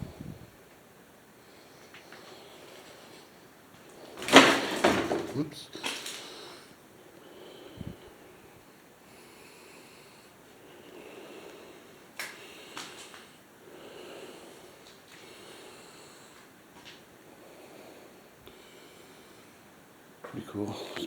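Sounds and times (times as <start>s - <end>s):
soft slow breathing: 0.0s - 4.2s, 5.7s - 20.0s.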